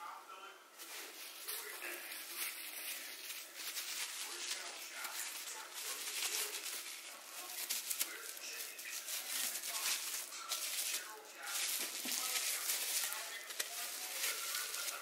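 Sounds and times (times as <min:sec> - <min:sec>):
bubble wrap crinkling: 0:00.8 - 0:15.0.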